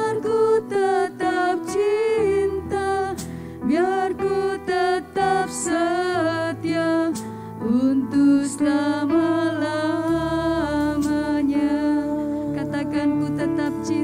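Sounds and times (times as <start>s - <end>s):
woman singing into a microphone: 0.0s - 14.0s.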